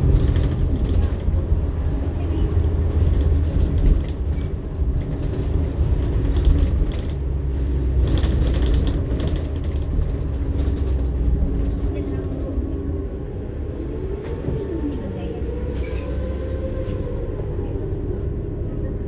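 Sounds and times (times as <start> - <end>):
bus engine low drone: 0.0 - 19.0.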